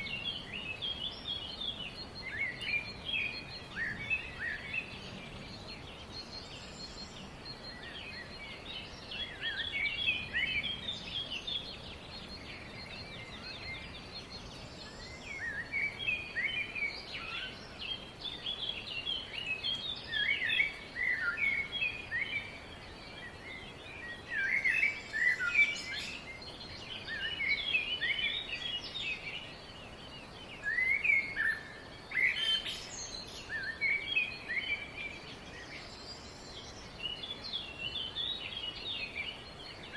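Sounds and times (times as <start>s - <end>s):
birds chirping and singing: 0.0s - 39.9s
steady background hiss: 0.0s - 39.9s.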